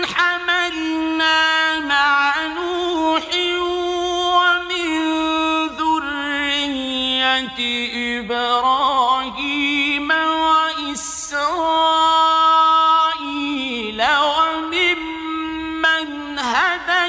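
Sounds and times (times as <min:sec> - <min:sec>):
man chanting melodic recitation: 0:00.0 - 0:17.0.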